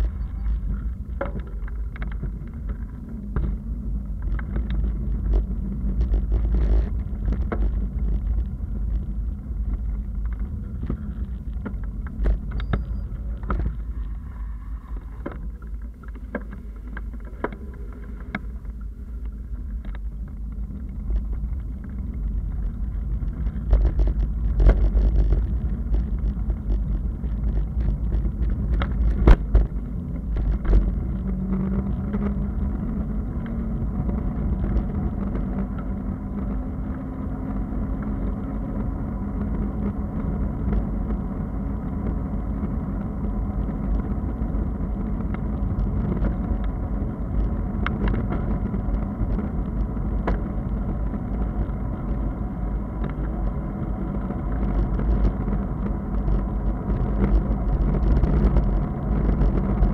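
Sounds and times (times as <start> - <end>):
bicycle tyre noise on wet asphalt: 0.0 - 59.9
low steady hum: 0.0 - 59.9
wind rumbling on microphone: 0.0 - 59.9.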